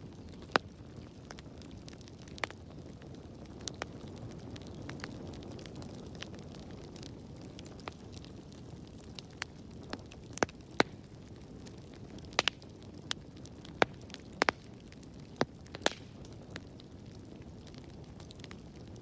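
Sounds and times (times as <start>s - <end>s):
fire crackles and pops: 0.0s - 19.0s
fire flames rumbling: 0.0s - 19.0s.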